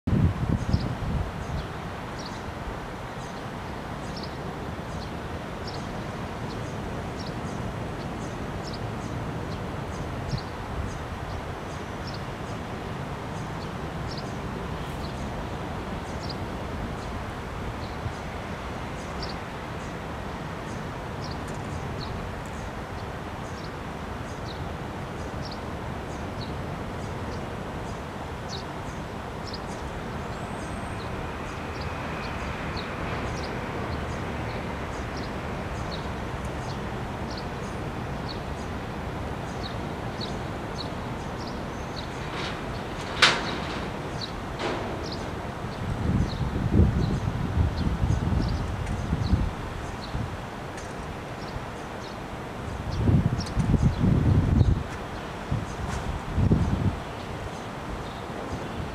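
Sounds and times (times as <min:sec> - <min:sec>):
city traffic roar: 0:00.0 - 0:58.9.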